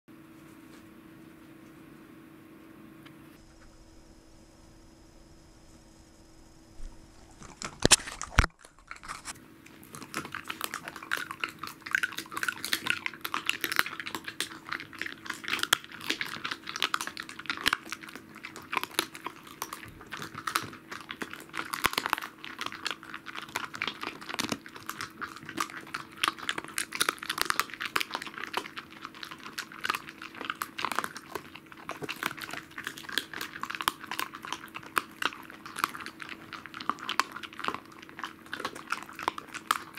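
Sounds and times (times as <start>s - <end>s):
dog crunching and chewing bone: 6.8s - 39.9s.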